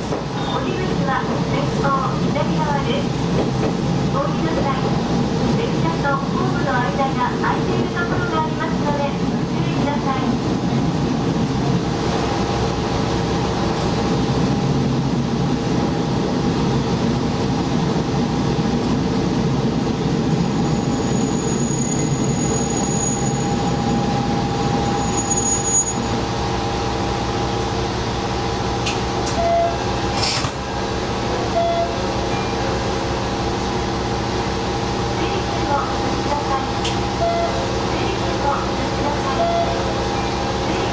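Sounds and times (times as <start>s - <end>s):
diesel railcar engine drone: 0.0s - 40.9s.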